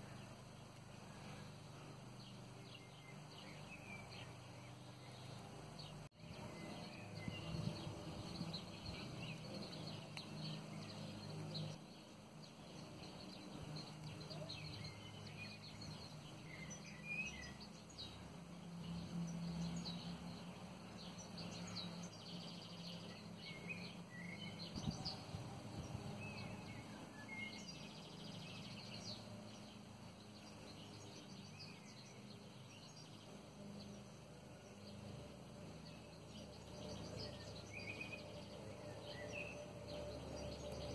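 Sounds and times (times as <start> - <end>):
low steady hum: 0.0 - 40.9
bird chirps: 2.2 - 35.0, 35.8 - 40.9.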